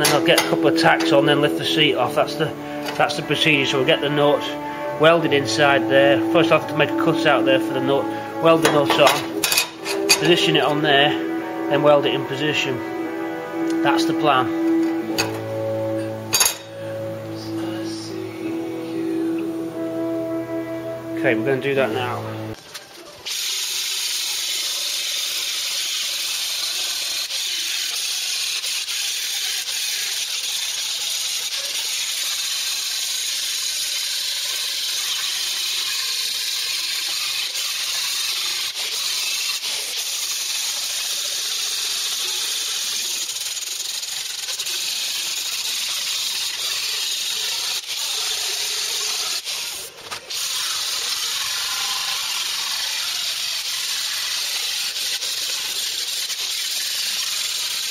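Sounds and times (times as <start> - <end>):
angle grinder grinding steel: 0.0 - 22.5, 23.3 - 57.9.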